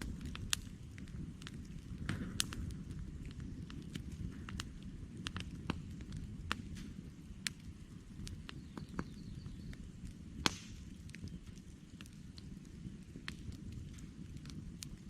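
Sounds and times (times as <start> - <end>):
campfire logs crackling: 0.0 - 15.0.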